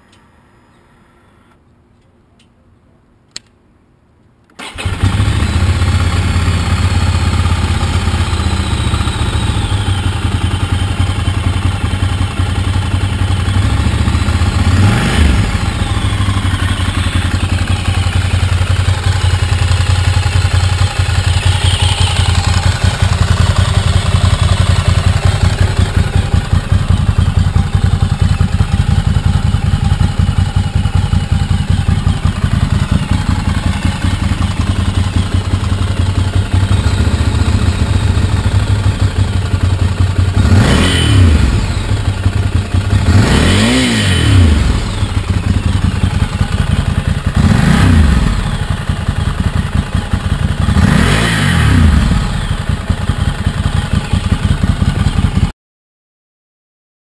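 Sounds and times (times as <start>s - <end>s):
motorcycle engine idling loudly: 4.8s - 55.5s.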